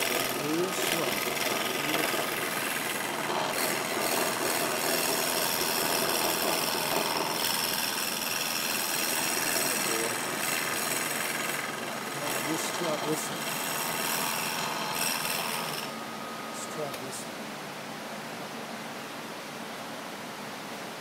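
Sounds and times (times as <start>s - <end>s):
wood lathe turning tool scraping: 0.0s - 17.0s
lathe high whine: 0.0s - 17.4s.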